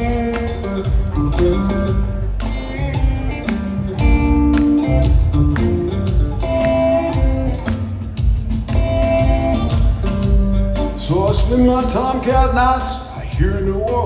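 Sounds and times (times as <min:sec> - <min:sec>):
electric guitar notes: 0:00.0 - 0:12.9
bass and drums: 0:00.0 - 0:14.0.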